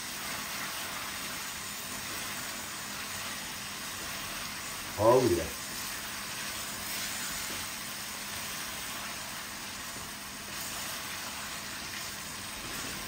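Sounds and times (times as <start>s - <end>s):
curry sizzling in a pot: 0.0s - 13.0s.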